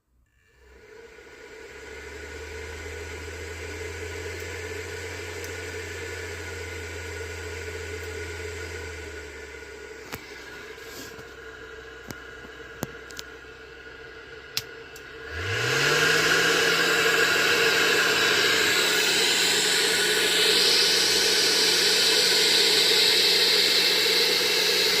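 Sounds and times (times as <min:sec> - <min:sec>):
boiler fan humming: 0:00.4 - 0:25.0.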